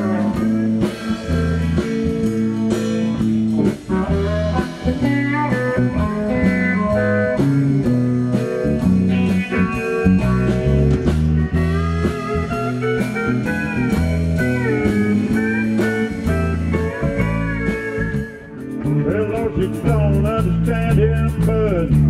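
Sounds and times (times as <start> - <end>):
pedal steel guitar sliding notes: 0.0 - 20.2
live country band playing: 0.0 - 22.0.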